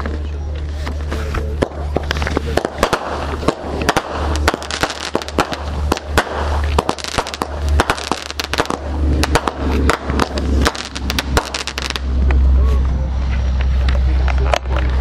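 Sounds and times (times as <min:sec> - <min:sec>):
fireworks bangs and pops: 0:00.0 - 0:12.4
low rumble: 0:00.0 - 0:15.0.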